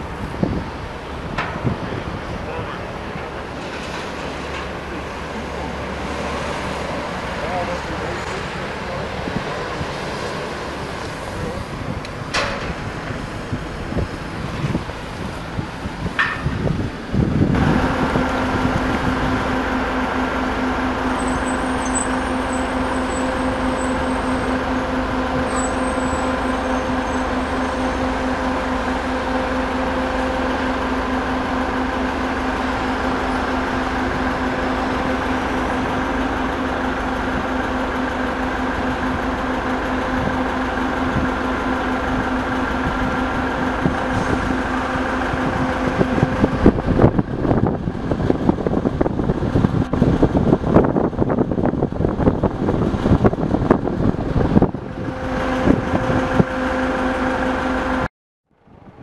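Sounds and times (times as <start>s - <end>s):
large engine droning: 0.0s - 59.0s.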